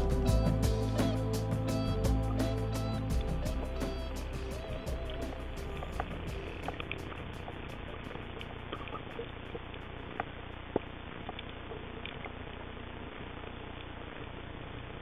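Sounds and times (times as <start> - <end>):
underwater noise: 0.0 - 14.7.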